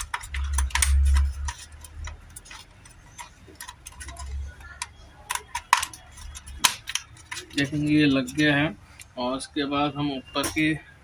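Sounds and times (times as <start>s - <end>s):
plastic and metal parts clicking: 0.0s - 9.2s.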